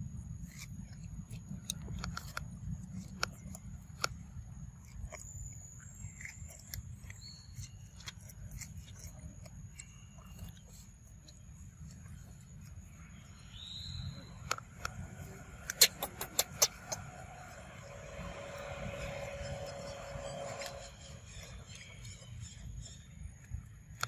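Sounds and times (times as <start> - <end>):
monkey chewing fruit: 0.1 - 24.0.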